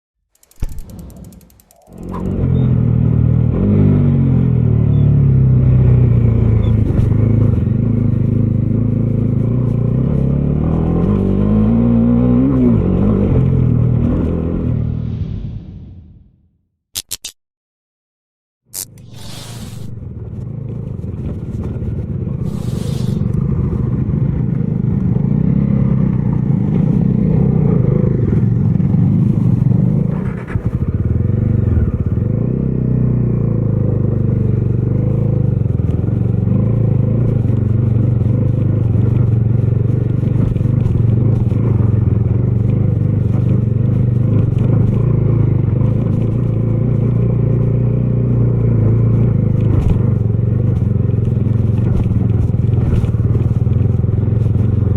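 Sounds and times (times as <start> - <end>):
motorcycle engine and exhaust: 0.3 - 16.3, 18.8 - 54.9.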